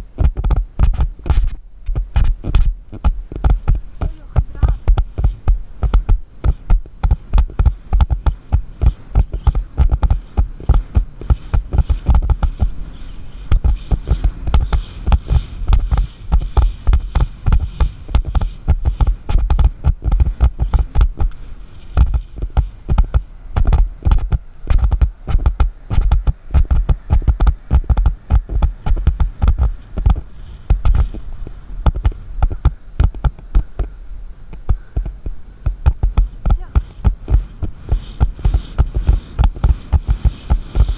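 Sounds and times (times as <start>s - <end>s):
horse hoofbeats on sand: 2.0s - 33.9s, 34.6s - 40.9s.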